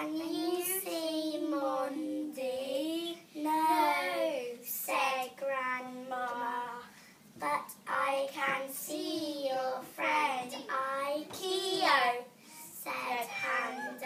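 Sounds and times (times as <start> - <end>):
girl singing: 0.0 - 14.0.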